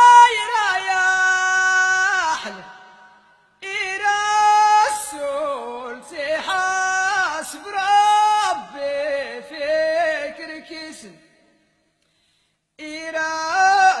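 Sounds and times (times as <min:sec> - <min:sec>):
solo voice chanting: 0:00.0 - 0:11.6, 0:12.8 - 0:14.0.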